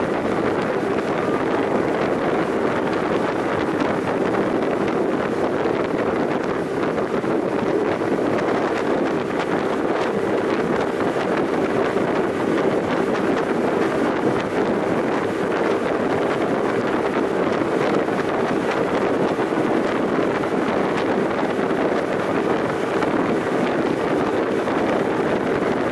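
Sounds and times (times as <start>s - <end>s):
boat engine drone: 0.0s - 25.9s
wind buffeting microphone: 0.0s - 25.9s.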